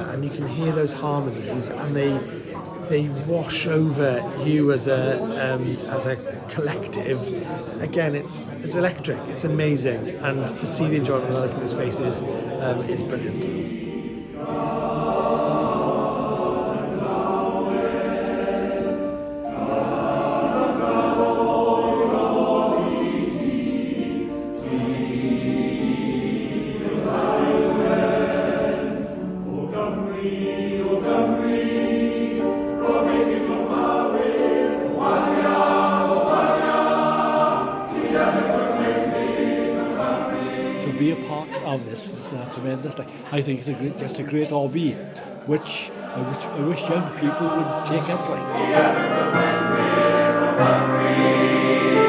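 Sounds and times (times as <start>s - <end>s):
male voice choir singing: 0.0s - 52.0s.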